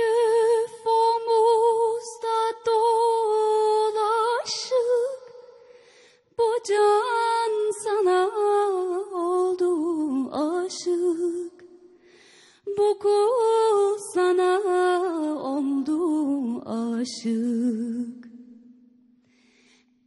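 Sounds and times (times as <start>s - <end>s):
woman singing unaccompanied: 0.0s - 5.3s, 6.4s - 11.6s, 12.7s - 18.3s.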